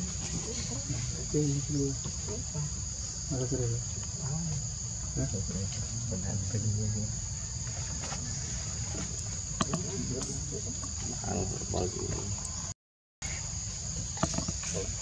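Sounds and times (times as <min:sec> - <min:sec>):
faint low-pitched calls: 0:00.0 - 0:15.0
forest insect chorus drone: 0:00.0 - 0:15.0.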